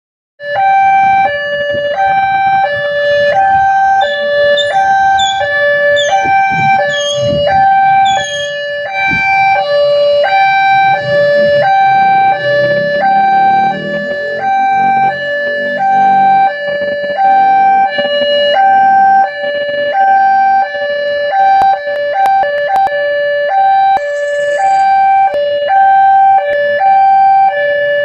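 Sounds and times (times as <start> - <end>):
two-tone level crossing siren: 0.4 - 28.0.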